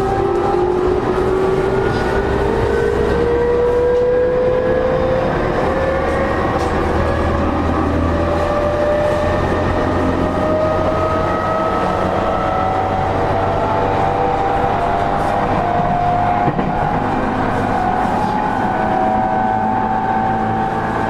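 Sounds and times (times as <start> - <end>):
train traction motors whining: 0.0 - 21.0
wheels rumbling on rail: 0.0 - 21.0.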